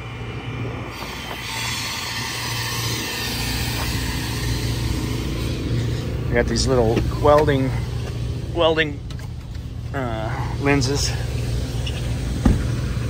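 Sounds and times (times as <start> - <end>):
air compressor engine humming: 0.0 - 13.0.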